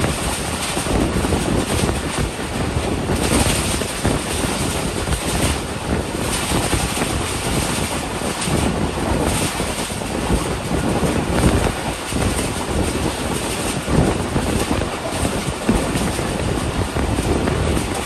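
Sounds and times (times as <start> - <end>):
train wheels rumbling on track: 0.0 - 18.0
wind rushing over microphone: 0.0 - 18.0.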